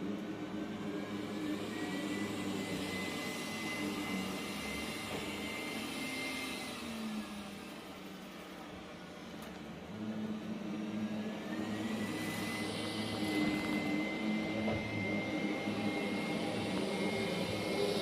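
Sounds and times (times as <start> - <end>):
robot vacuum motor humming: 0.0 - 9.2, 9.8 - 18.0.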